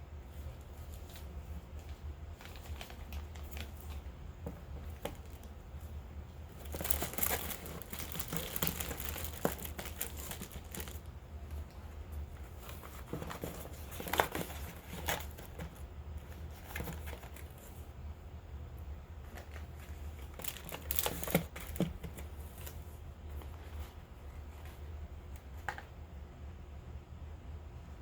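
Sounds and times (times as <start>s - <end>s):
steady low hum: 0.0s - 28.0s
packaging crinkling and rustling: 0.2s - 17.9s, 19.2s - 25.9s.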